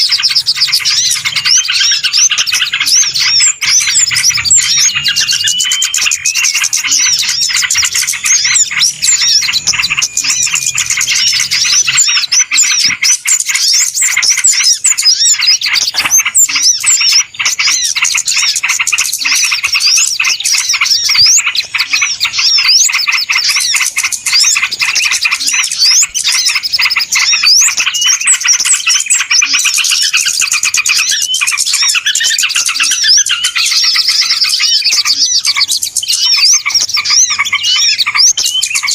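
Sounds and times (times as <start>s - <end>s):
small birds chirping in chorus: 0.0s - 38.9s.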